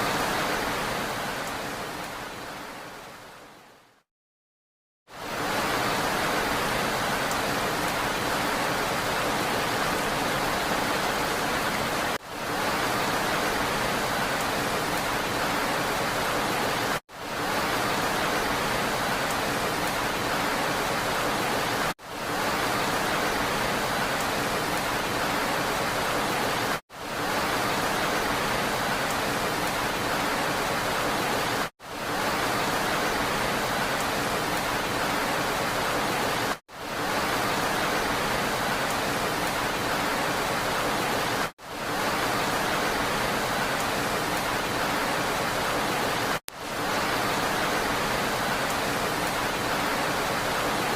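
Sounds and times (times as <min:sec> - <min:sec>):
steady rain hiss: 0:00.0 - 0:04.0, 0:05.1 - 0:50.9.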